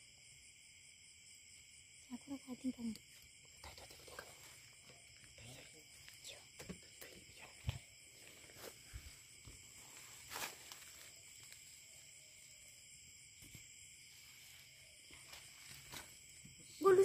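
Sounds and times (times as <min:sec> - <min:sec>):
night insects chirring: 0:00.0 - 0:17.0.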